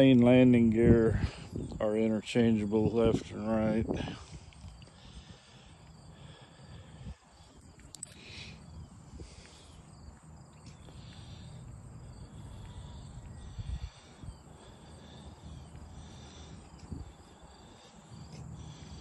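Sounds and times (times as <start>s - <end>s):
faint crickets chirping: 0.0s - 19.0s.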